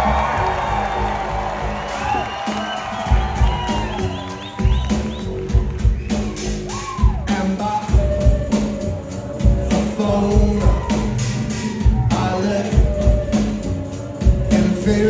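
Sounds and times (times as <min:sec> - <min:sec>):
bass line: 0:00.0 - 0:15.0
rock band playing: 0:00.0 - 0:15.0
steady drum beat: 0:00.0 - 0:15.0.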